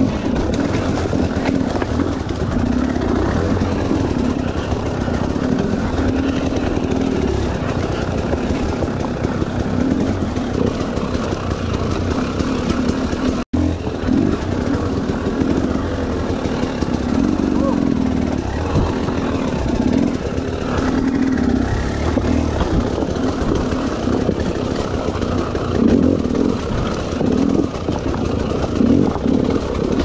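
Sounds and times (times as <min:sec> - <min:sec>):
dirt bike engine at low revs: 0:00.0 - 0:30.0.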